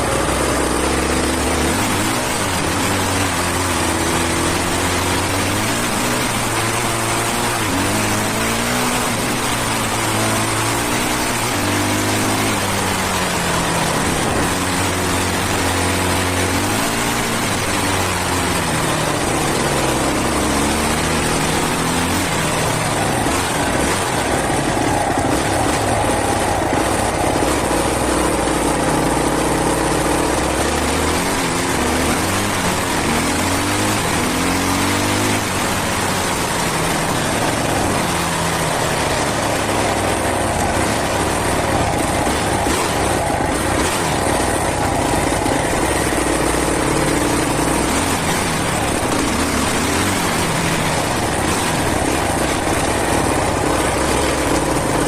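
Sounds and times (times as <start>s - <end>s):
motorcycle engine revving: 0.0s - 55.0s
steady rush of noise: 0.0s - 55.0s.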